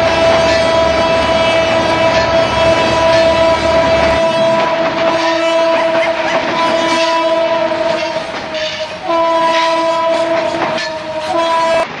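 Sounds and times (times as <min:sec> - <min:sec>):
locomotive air horn blasts: 0:00.0 - 0:11.9
passing train rumble and clatter: 0:00.0 - 0:12.0.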